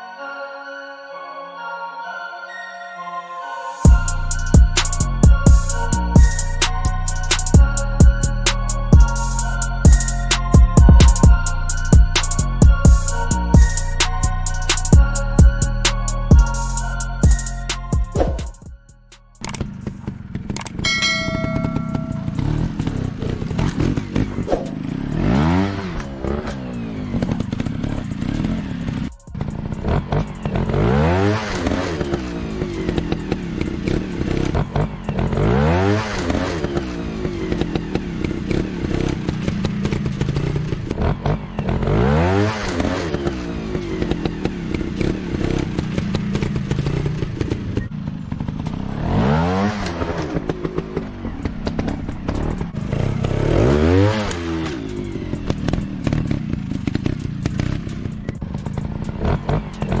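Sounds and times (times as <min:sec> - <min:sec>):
motorcycle engine revving: 0:03.8 - 0:18.6, 0:19.4 - 1:00.0.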